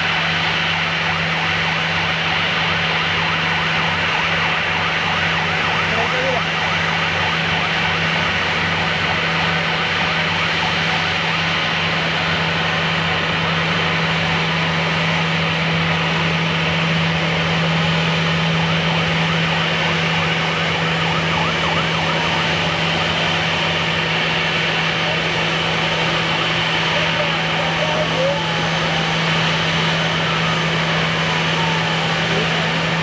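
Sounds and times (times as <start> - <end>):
loud engine drone: 0.0 - 33.0.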